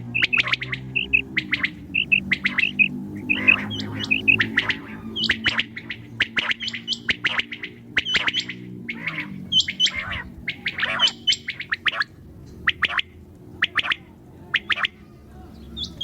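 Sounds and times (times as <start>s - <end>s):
low steady hum: 0.0s - 16.0s
quails chirping: 0.0s - 16.0s.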